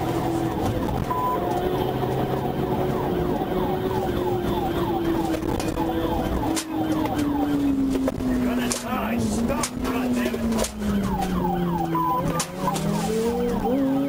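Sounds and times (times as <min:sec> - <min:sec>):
police siren yelping: 0:00.0 - 0:14.0.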